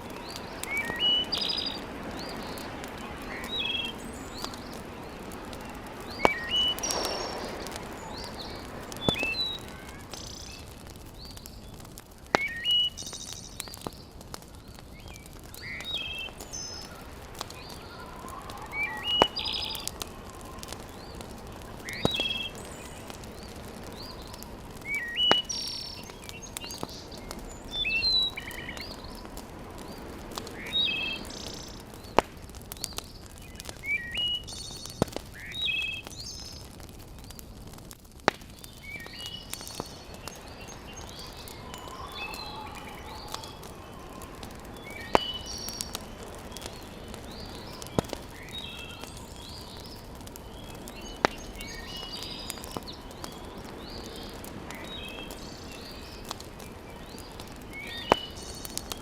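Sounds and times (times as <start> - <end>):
small birds chirping: 0.0 - 59.0
wood fire popping: 0.0 - 59.0.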